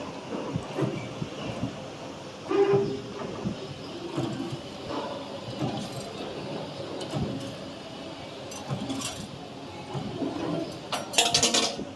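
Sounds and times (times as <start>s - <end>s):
wire bending machine running: 0.0s - 11.9s.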